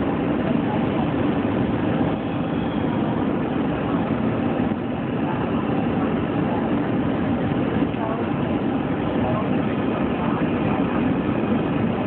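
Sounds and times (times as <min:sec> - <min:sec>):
jet engine and airflow rush: 0:00.0 - 0:12.0.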